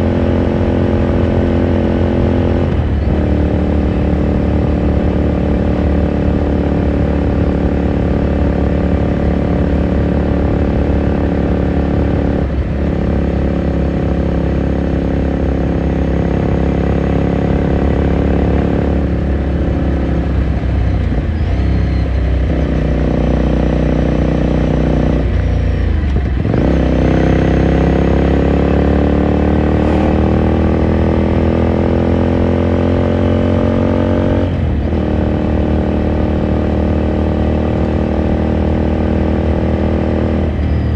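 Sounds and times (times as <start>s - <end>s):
motorcycle engine accelerating: 0.0s - 20.6s, 22.4s - 40.9s.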